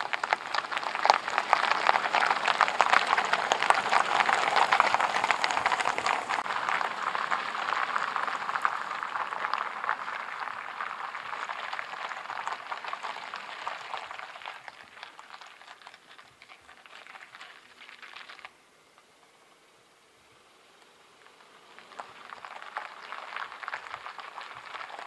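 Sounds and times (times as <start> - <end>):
tyres hissing on wet asphalt: 0.0 - 25.0.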